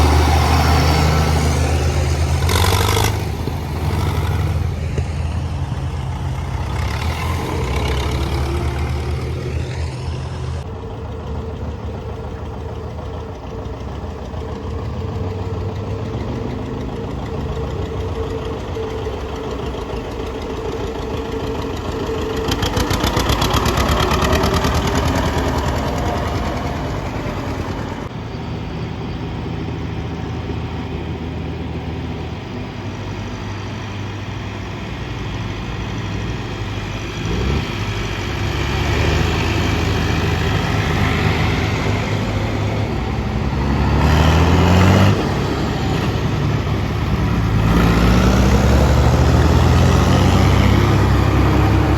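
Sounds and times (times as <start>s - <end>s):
tractor engines running at low revs: 0.0s - 51.9s.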